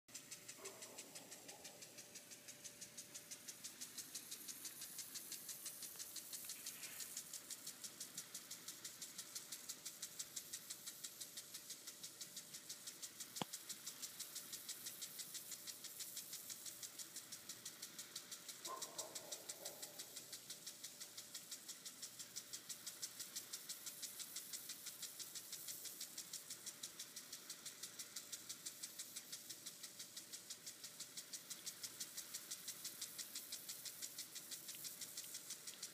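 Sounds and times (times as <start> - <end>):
lawn sprinkler ticking: 0.1 - 35.9
hiss of spray: 0.2 - 35.9.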